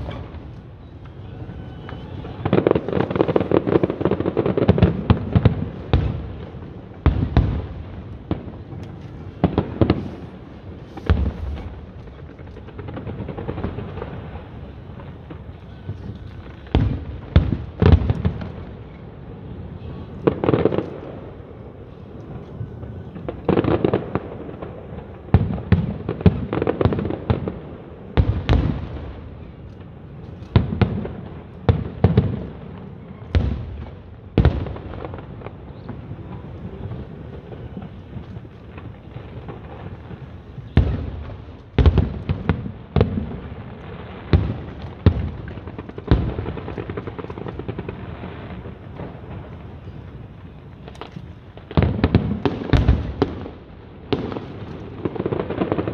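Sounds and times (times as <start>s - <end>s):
fireworks bursting with bangs: 0.0s - 55.9s.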